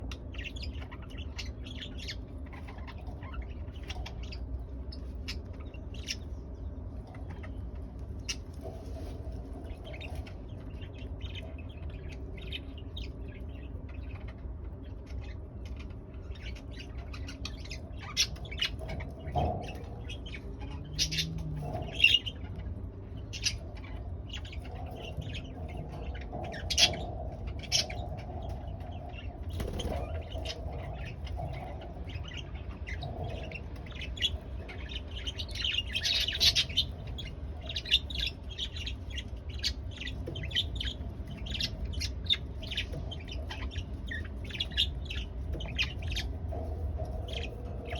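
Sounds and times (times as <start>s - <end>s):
budgerigars chirping and chattering: 0.0s - 47.9s
steady low hum: 0.0s - 47.9s.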